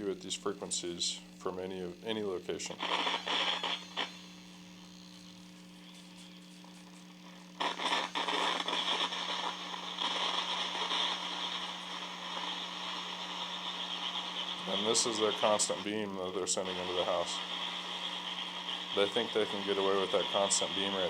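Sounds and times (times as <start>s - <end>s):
electronic static: 0.0s - 21.0s
steady electrical hum: 0.0s - 21.0s
hissing crackle: 2.2s - 21.0s.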